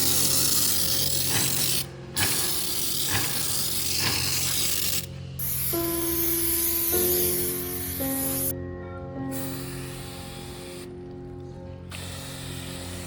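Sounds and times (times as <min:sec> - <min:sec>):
pressure sprayer hissing: 0:00.0 - 0:08.5, 0:09.3 - 0:11.1, 0:11.9 - 0:13.0.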